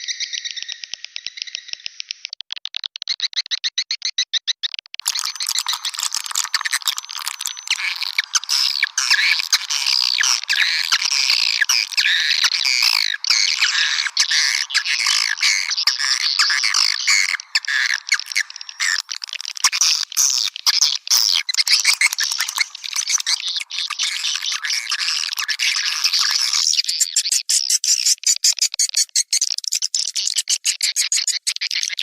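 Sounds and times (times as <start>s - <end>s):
sharp clicks: 0.4s - 26.6s
swiftlets chirping and twittering: 5.0s - 32.0s.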